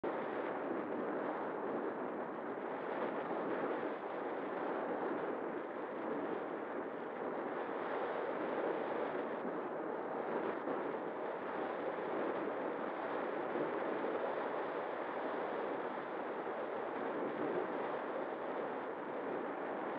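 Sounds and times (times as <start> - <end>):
wind noise on microphone: 0.0 - 19.9.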